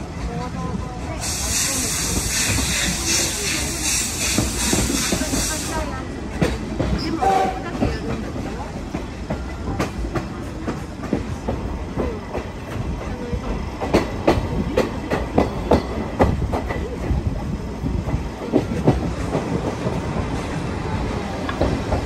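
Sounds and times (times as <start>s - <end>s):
train running gear rumble: 0.0s - 22.0s.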